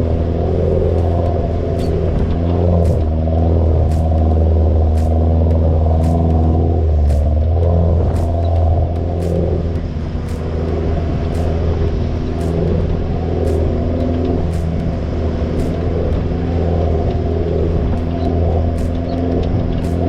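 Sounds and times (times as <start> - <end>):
vehicle engine and road drone: 0.0 - 20.0.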